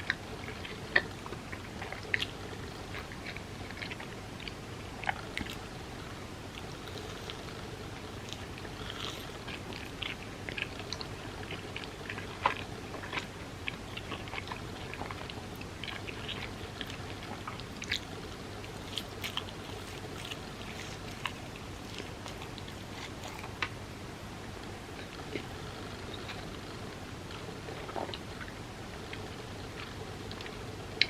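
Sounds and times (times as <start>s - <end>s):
chewing and biting: 0.0s - 23.8s, 25.0s - 31.0s.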